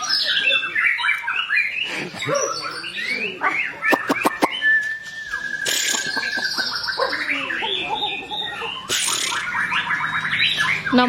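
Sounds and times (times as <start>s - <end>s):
bird singing: 0.0s - 11.0s.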